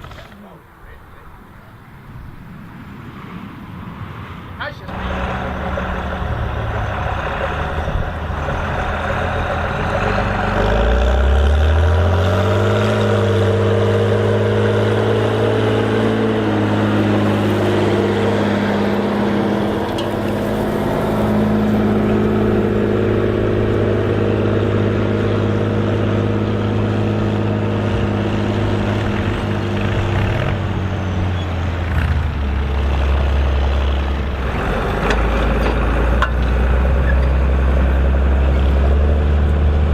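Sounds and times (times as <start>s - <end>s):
tractor engine revving: 4.8s - 39.9s.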